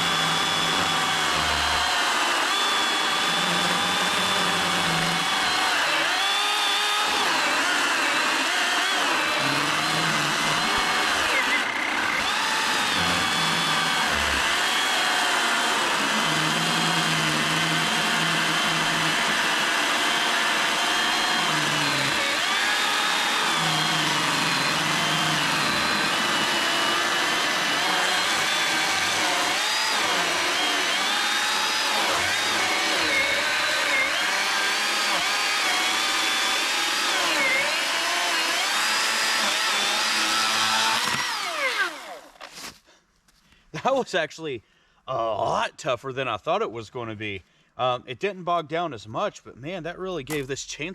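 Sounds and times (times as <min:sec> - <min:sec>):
chainsaw cutting log: 0:00.0 - 0:42.8.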